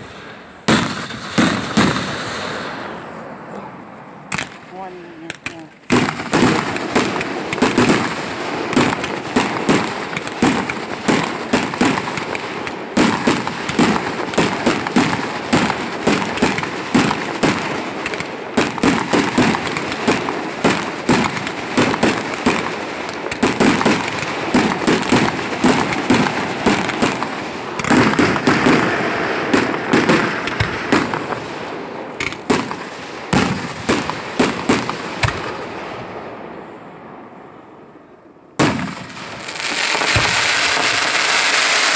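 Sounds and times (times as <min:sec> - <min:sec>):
fireworks pops and bangs: 0:00.0 - 0:02.6, 0:04.3 - 0:35.7, 0:38.6 - 0:41.9
fireworks crackling: 0:00.0 - 0:36.3, 0:38.6 - 0:41.9.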